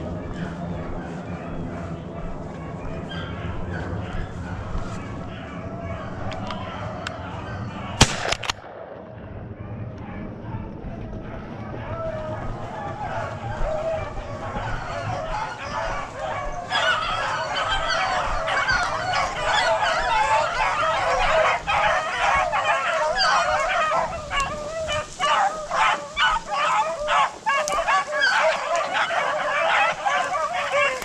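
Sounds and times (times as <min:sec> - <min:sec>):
hounds baying together: 0:00.0 - 0:08.2, 0:09.6 - 0:31.0.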